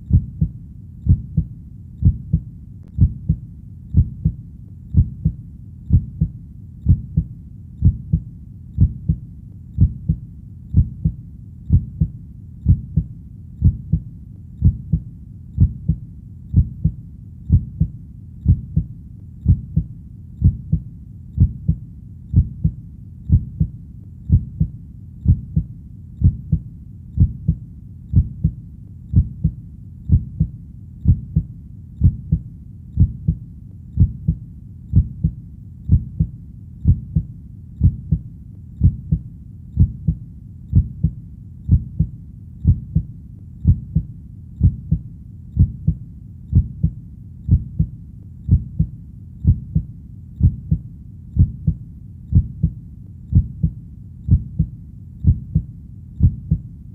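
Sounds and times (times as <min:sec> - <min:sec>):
faint low background noise: 0:00.0 - 0:56.9
heartbeat double thump: 0:00.1 - 0:02.4, 0:03.0 - 0:06.3, 0:06.9 - 0:08.2, 0:08.8 - 0:09.2, 0:09.8 - 0:15.0, 0:15.6 - 0:20.8, 0:21.4 - 0:23.7, 0:24.3 - 0:26.6, 0:27.2 - 0:32.4, 0:33.0 - 0:33.4, 0:34.0 - 0:38.2, 0:38.8 - 0:39.2, 0:39.8 - 0:45.0, 0:45.6 - 0:47.9, 0:48.5 - 0:50.8, 0:51.4 - 0:56.6.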